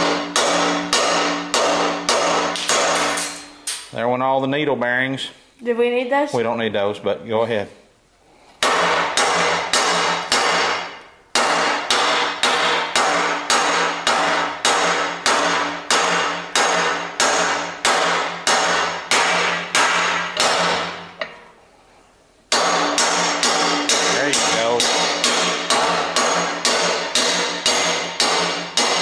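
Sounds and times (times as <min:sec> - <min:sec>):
hammer striking metal: 0:00.0 - 0:04.0, 0:08.6 - 0:21.4, 0:22.5 - 0:29.0.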